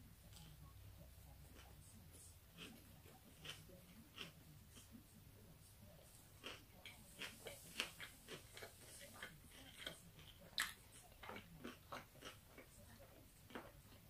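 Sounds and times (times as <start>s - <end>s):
person chewing food: 1.4s - 5.0s, 6.0s - 14.0s.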